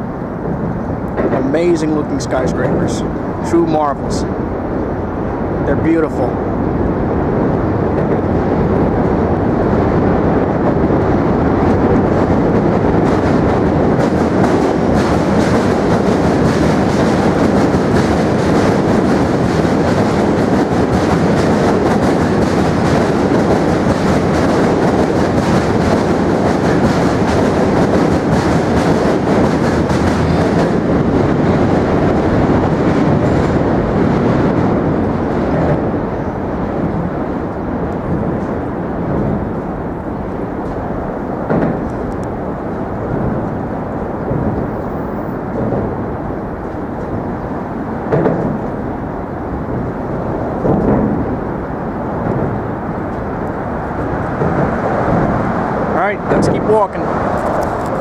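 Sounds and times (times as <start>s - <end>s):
subway train rumbling on bridge: 0.0s - 58.0s
wheel clatter: 7.8s - 58.0s.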